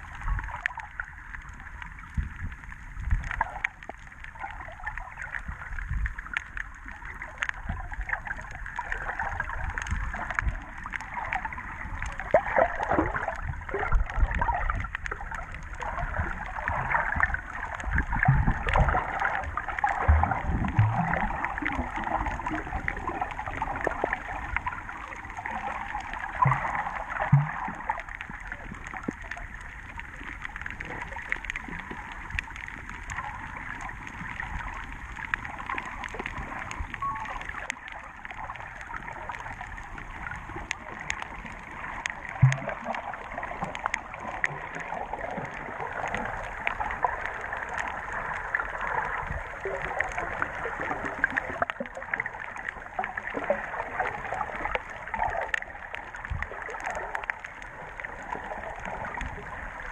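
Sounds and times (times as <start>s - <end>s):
crackle of small underwater clicks: 0.0s - 59.9s.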